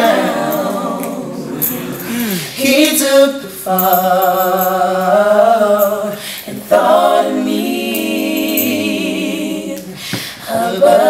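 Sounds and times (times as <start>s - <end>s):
people singing gospel harmony: 0.0s - 11.0s.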